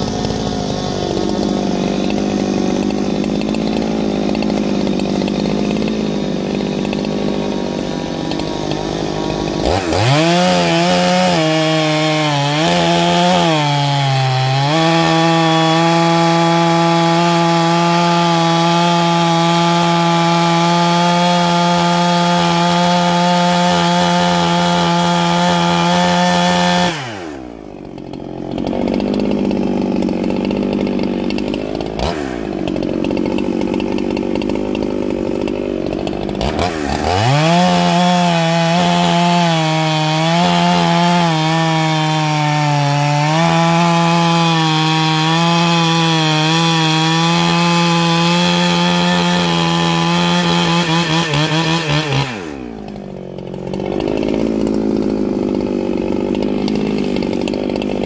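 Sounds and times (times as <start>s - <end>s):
chainsaw cutting a log: 0.0s - 58.0s
chainsaw idling: 0.0s - 58.0s.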